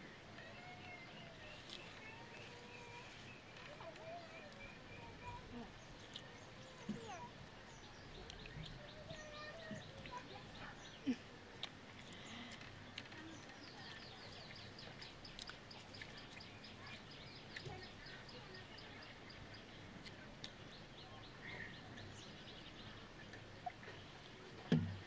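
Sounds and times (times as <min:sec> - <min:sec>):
bird chirping: 0:00.4 - 0:25.0.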